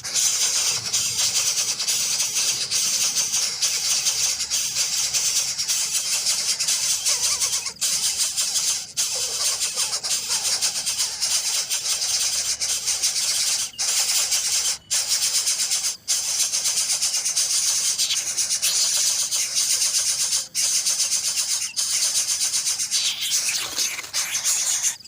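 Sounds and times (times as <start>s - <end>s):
nestlings hissing begging calls: 0.0s - 25.0s.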